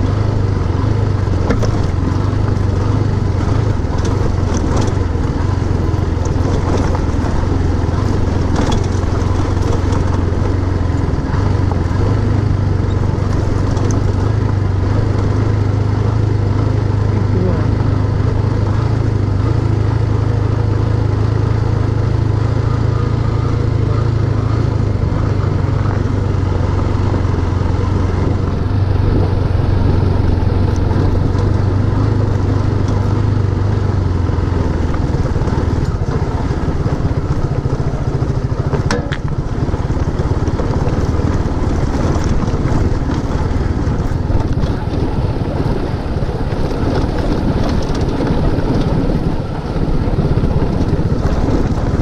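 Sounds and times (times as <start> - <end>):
rushing wind noise: 0.0 - 20.6, 21.4 - 52.0
motorcycle engine running: 0.0 - 52.0.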